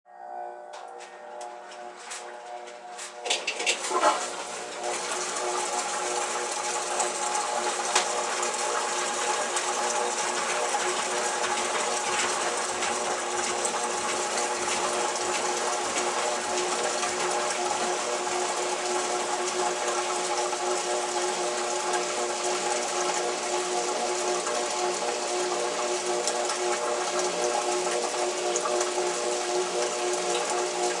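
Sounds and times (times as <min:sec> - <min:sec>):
washing machine motor hum: 0:00.1 - 0:31.0.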